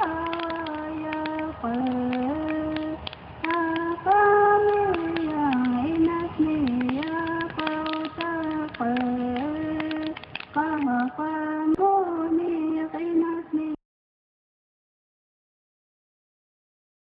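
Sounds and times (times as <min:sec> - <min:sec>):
high voice singing slow melody: 0:00.0 - 0:13.8.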